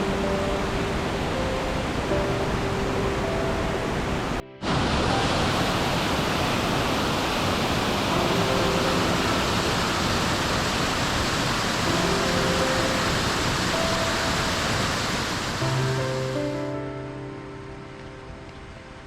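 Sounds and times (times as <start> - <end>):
quiet background music: 0.0 - 6.4, 7.8 - 19.0
rushing water: 0.0 - 19.0.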